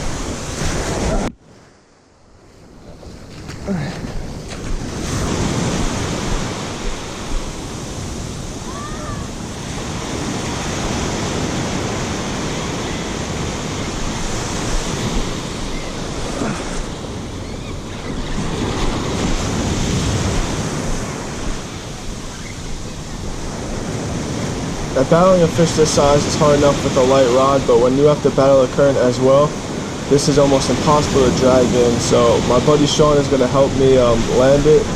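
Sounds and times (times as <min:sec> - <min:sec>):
ocean surf breaking on beach: 0:00.0 - 0:34.9
wind buffeting microphone: 0:02.4 - 0:34.9.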